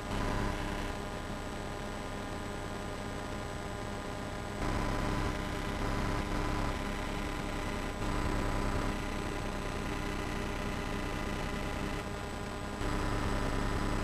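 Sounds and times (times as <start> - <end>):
camcorder hiss and hum: 0.0 - 14.0.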